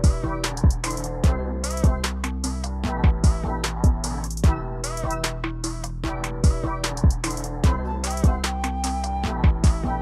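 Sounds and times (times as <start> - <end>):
electronic drum beat music: 0.0 - 10.0.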